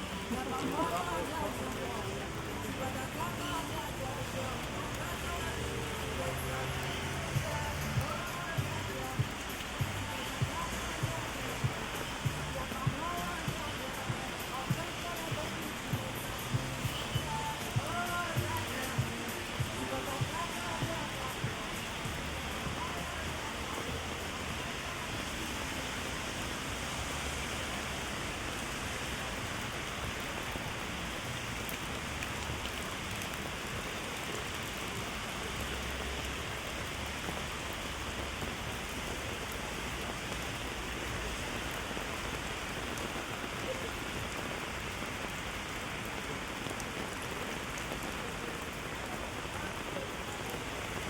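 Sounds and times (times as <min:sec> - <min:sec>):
rain on wet pavement: 0:00.0 - 0:51.0
rain pattering on an umbrella: 0:00.0 - 0:51.0.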